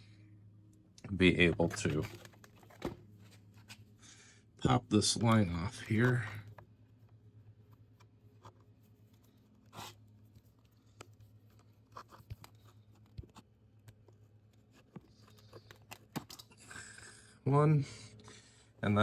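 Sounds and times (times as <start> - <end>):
low steady hum: 0.0 - 19.0
fuel line clicks and scrapes: 1.0 - 4.0, 5.0 - 17.4.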